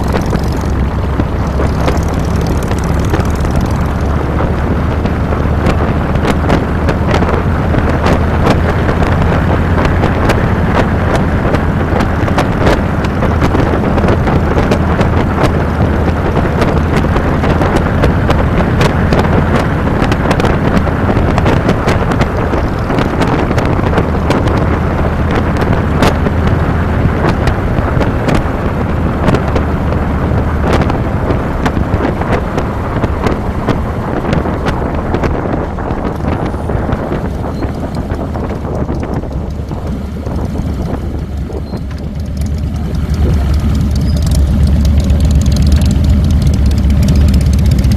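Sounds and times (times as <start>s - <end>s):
motorcycle engine humming: 0.0s - 47.9s
wind buffeting crackles: 0.0s - 47.9s
wind rushing over microphone: 0.0s - 47.9s.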